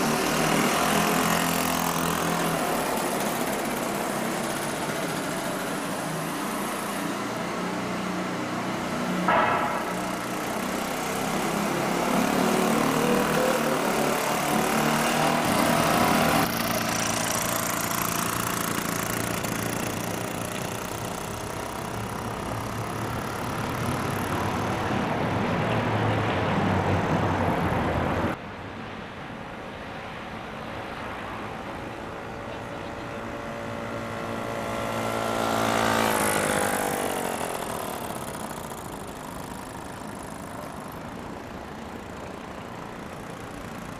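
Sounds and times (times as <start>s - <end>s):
small two-stroke engine running: 0.0s - 26.3s, 30.5s - 43.9s.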